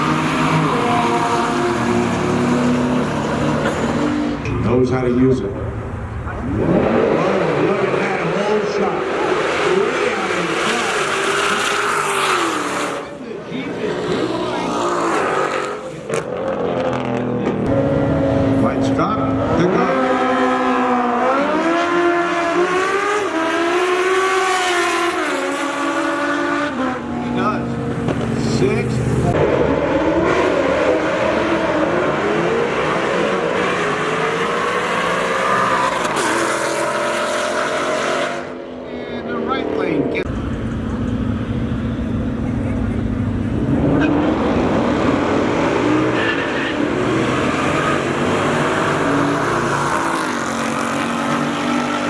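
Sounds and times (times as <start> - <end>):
racing car engine high revs: 0.0 - 38.8, 39.6 - 52.0.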